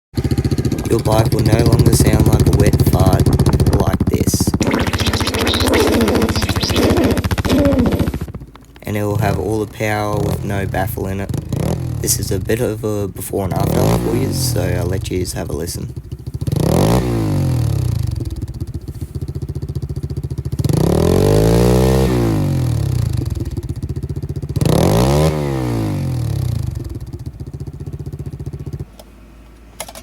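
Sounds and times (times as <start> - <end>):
pit bike engine idling and revving: 0.2 - 29.0.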